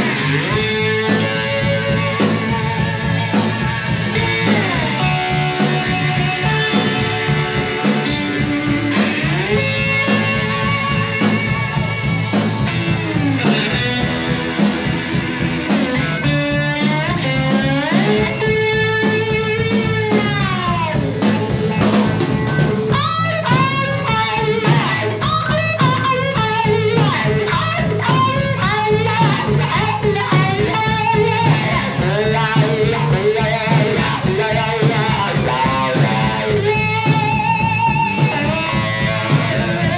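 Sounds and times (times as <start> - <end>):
drum-kit beat: 0.0 - 39.9
electric bass: 0.0 - 39.9
slide guitar: 0.0 - 39.9.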